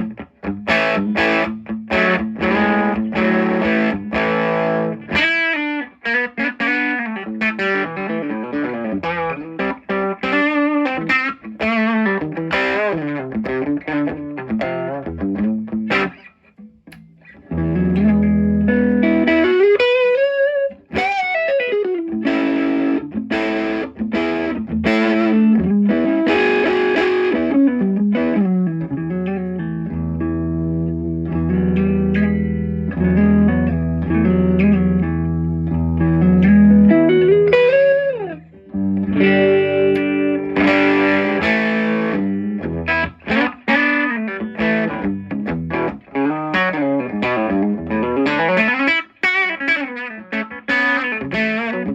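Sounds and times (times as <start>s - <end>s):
overdriven electric guitar: 0.0s - 51.9s.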